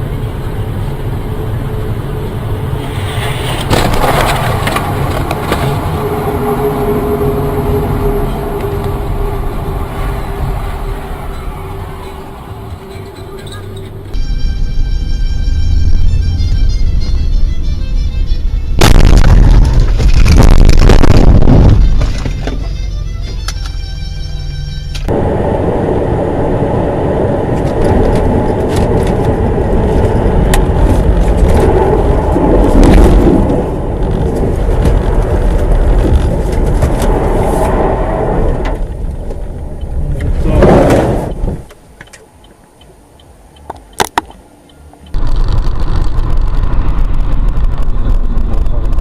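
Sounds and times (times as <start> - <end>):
road and engine noise: 0.0 - 49.0.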